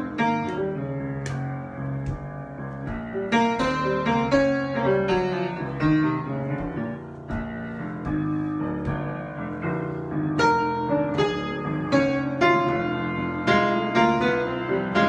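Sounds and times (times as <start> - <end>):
solo piano improvisation: 0.0 - 15.0.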